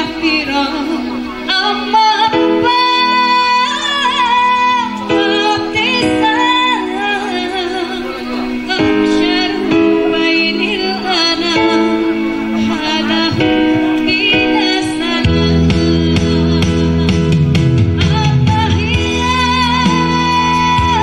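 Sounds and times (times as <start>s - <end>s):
keyboard chords: 0.0s - 21.0s
woman singing: 0.0s - 21.0s.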